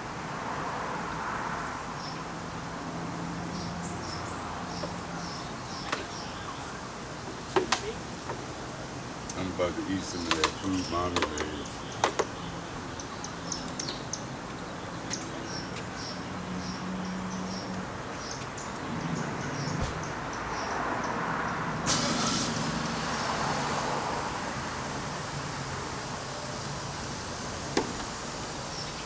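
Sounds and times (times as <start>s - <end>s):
vehicle passing: 0.0s - 13.7s, 15.5s - 29.0s.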